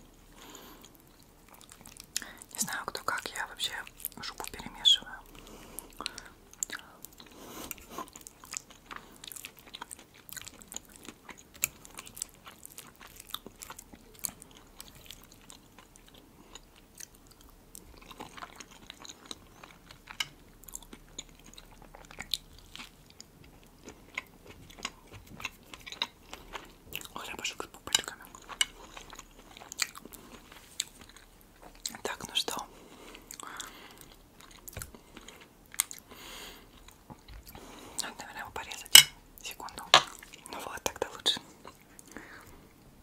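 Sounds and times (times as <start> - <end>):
wet chewing with mouth clicks: 0.4 - 42.8.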